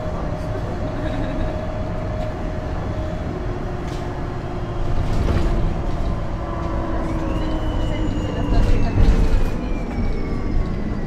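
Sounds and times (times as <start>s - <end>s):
bus engine hum from inside: 0.0s - 11.0s.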